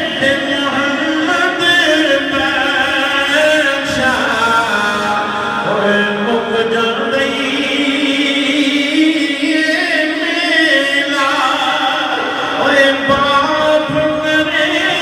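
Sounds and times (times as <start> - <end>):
man chanting into microphone: 0.0 - 15.0.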